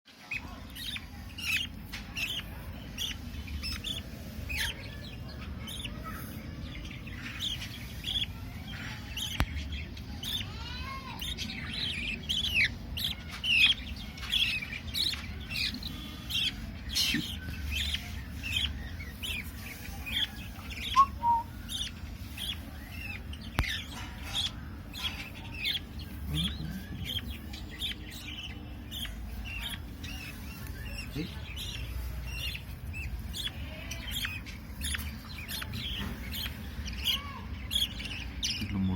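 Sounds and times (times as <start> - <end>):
budgerigars chirping: 0.1 - 38.9.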